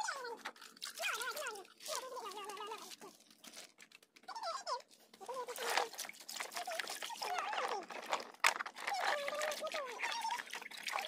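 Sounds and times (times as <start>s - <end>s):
light clicks and patter: 0.0s - 11.0s.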